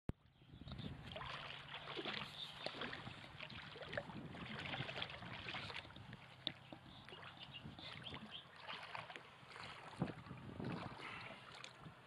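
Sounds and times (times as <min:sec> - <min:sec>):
water lapping and splashing: 0:00.2 - 0:12.0.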